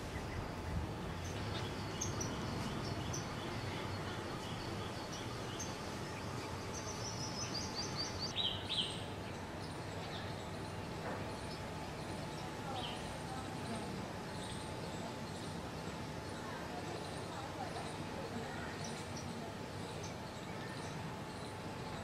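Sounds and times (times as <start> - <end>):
birds chirping: 0.0 - 22.0
outdoor background hiss: 0.0 - 22.0.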